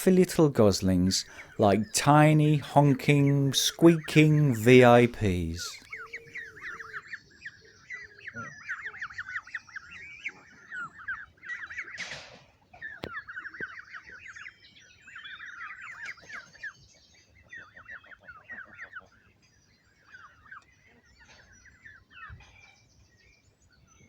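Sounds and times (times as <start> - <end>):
goslings peeping: 0.0 - 24.0.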